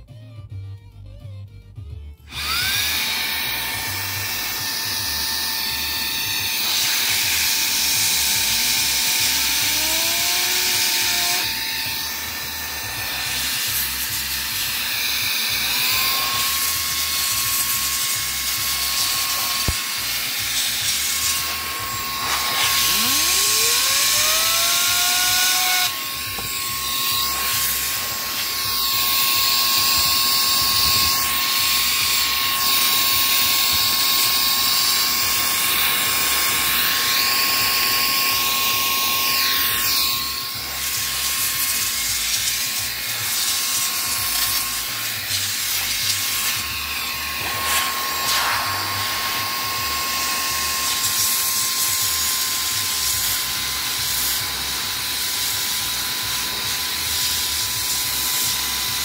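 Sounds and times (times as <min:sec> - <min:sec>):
mini vacuum motor whine: 0:02.3 - 0:59.0.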